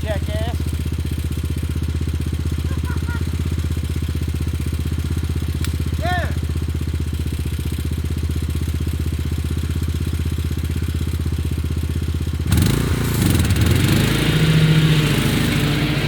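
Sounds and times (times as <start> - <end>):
lawnmower engine running: 0.0 - 16.0.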